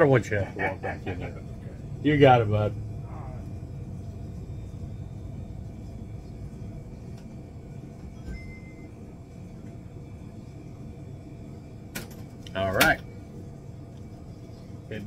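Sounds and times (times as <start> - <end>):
store interior hum: 0.0 - 15.0.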